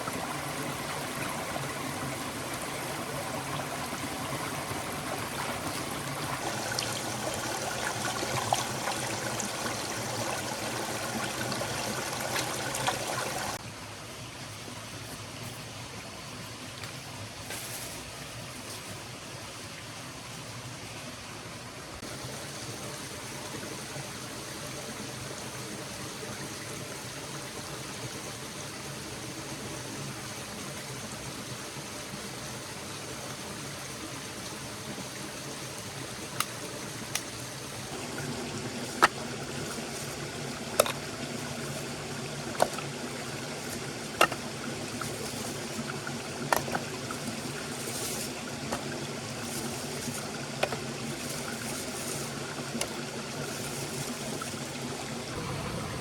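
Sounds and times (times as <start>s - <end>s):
stream flowing: 0.0s - 17.2s, 19.0s - 56.0s.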